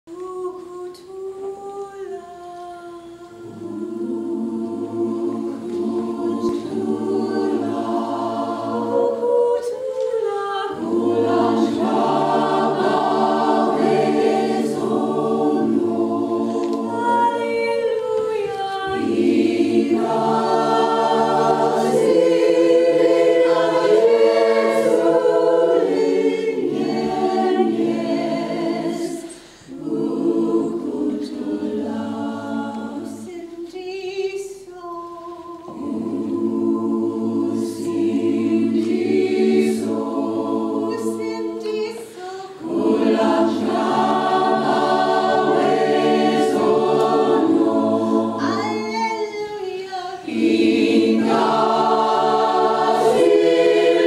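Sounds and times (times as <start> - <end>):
mixed choir singing in harmony: 0.2 - 54.0.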